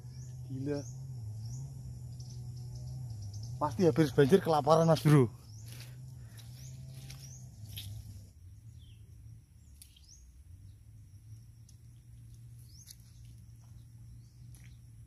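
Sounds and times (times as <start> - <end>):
bird chirps: 0.0 - 10.9, 11.6 - 14.9
steady low hum: 0.0 - 15.0.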